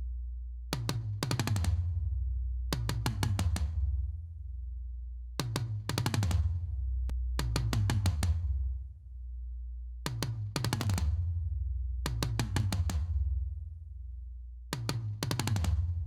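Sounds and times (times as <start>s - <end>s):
low bass: 0.0s - 14.8s.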